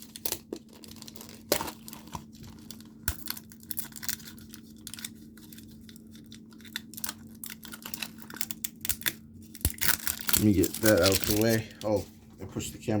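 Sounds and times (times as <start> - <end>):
packaging crinkling: 0.0 - 12.1.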